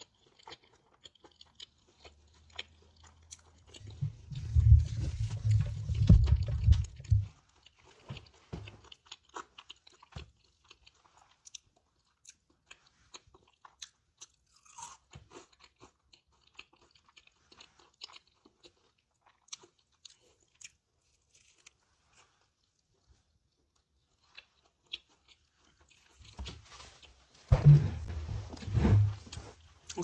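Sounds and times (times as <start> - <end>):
crunchy chewing: 0.0 - 27.3.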